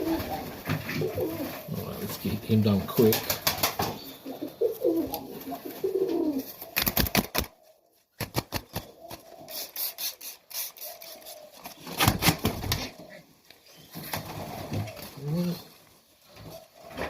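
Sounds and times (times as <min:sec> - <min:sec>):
pigeons cooing: 0:00.0 - 0:08.0, 0:08.7 - 0:09.8, 0:10.8 - 0:17.0.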